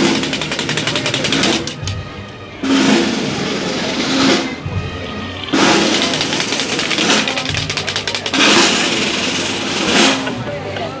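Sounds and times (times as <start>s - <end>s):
snare drum rolls: 0.0s - 2.0s, 2.6s - 10.5s
procession band drums: 0.0s - 10.7s.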